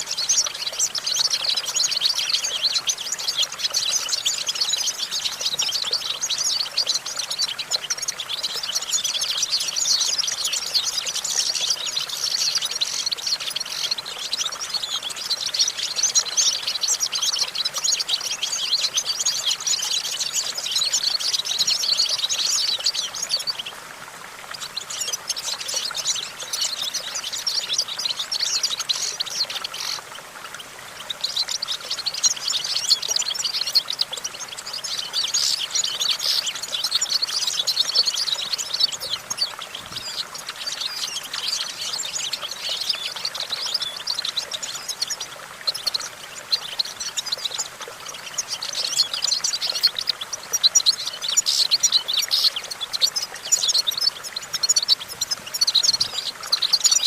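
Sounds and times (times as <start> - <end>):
finch twittering song: 0.0 - 23.8, 24.5 - 57.0.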